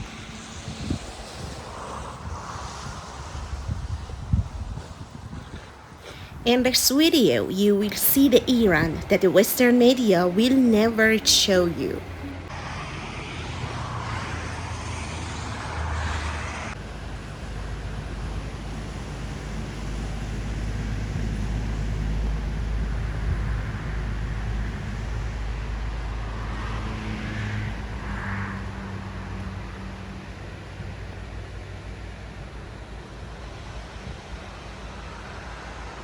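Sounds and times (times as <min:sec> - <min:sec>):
car engine and tyre rumble: 0:00.0 - 0:06.5, 0:12.1 - 0:36.0.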